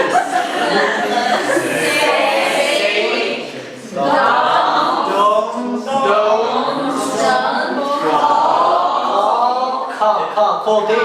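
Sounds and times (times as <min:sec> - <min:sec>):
several people talking: 0:00.0 - 0:11.0.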